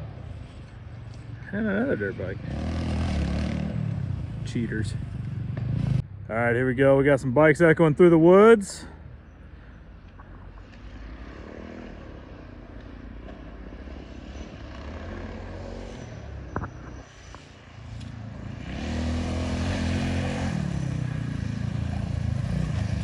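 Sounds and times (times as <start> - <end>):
off-road bike engines revving: 0.0 - 23.0.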